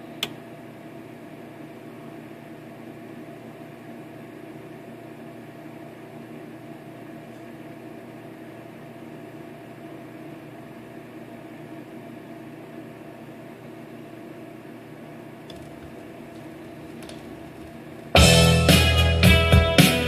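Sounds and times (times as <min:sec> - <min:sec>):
turntable whirring hum: 0:00.0 - 0:19.2.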